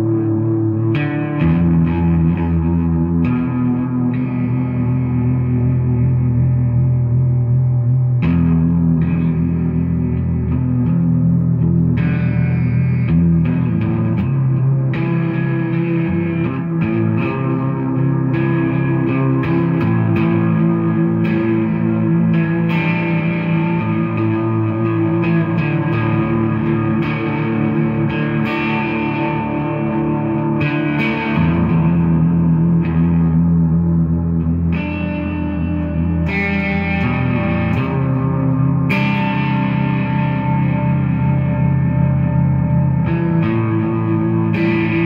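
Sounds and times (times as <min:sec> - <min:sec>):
electric guitar through amplifier: 0:00.0 - 0:45.0.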